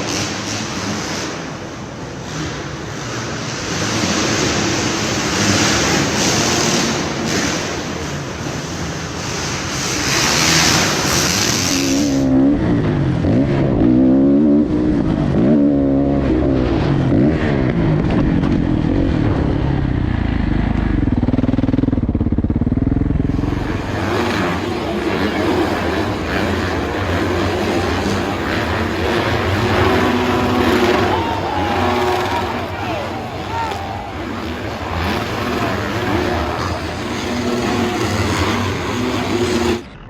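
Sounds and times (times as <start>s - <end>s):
motocross bike engines revving: 0.0s - 40.0s.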